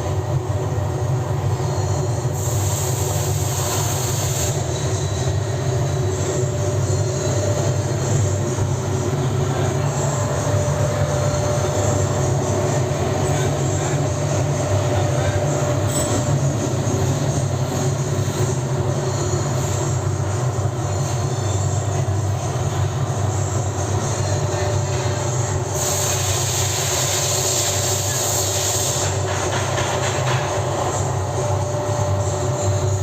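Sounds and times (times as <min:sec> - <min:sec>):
gas furnace roaring: 0:00.0 - 0:33.0.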